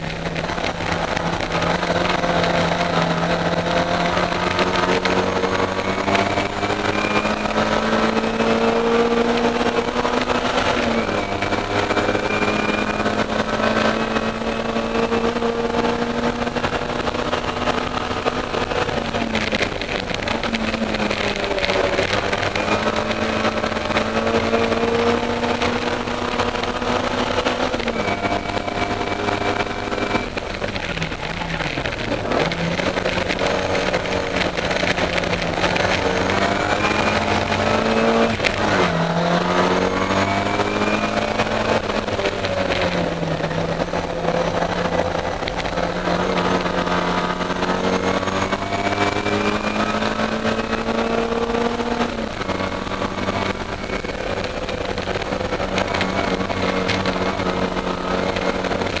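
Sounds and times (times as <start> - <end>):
racing car engine running hard: 0.0 - 59.0.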